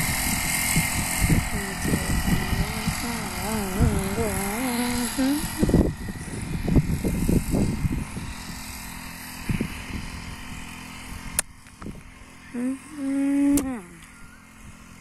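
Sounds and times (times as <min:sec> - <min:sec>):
distant small engine drone: 0:00.0 - 0:15.0.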